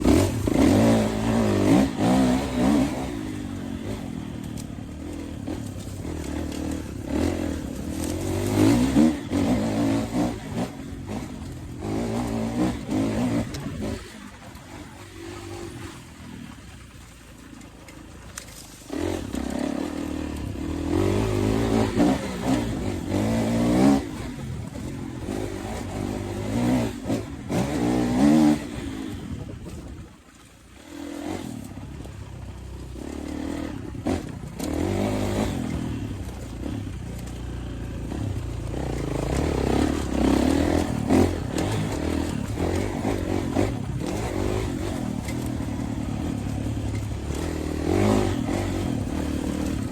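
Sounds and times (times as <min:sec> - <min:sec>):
dirt bike engine revving: 0:00.0 - 0:17.1, 0:18.8 - 0:30.1, 0:30.8 - 0:49.9.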